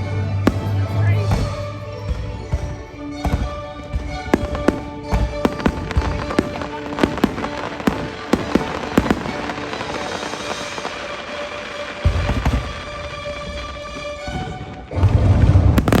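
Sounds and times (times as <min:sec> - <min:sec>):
music: 0:00.0 - 0:16.0
fireworks bangs: 0:00.4 - 0:16.0.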